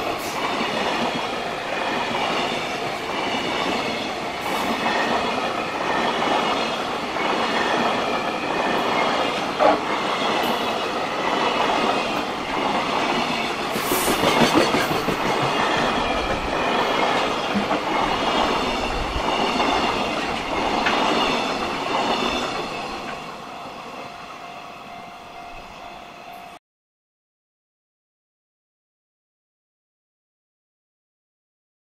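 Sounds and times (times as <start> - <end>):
train wheels on rails: 0.0 - 26.6.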